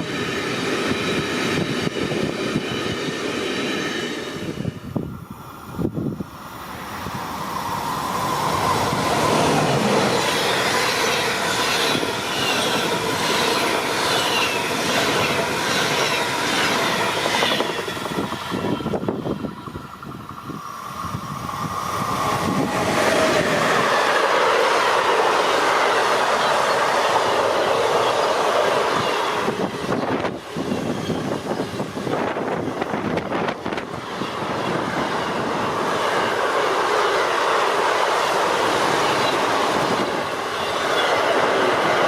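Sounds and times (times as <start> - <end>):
freight train passing: 0.0 - 42.0.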